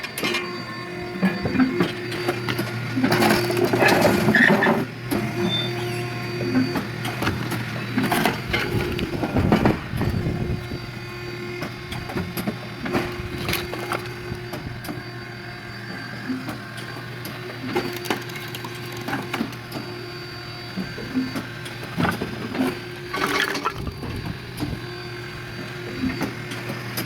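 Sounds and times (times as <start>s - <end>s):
wood splitter humming: 0.7s - 27.0s.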